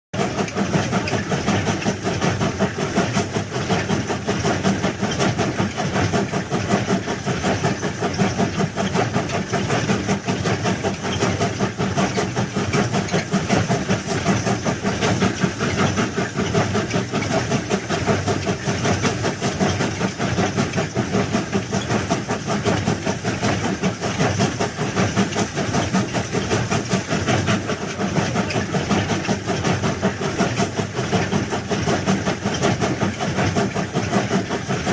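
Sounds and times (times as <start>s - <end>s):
train rattling along track: 0.2s - 34.9s.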